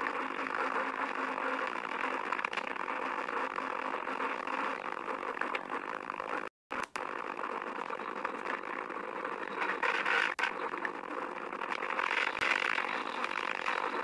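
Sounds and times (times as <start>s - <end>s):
bicycle rushing and rattling: 0.0s - 14.0s.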